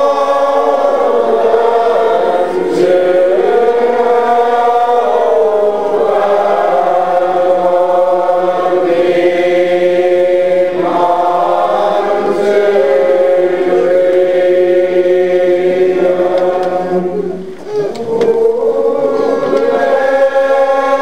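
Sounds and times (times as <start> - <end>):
crowd singing without instruments: 0.0 - 21.0.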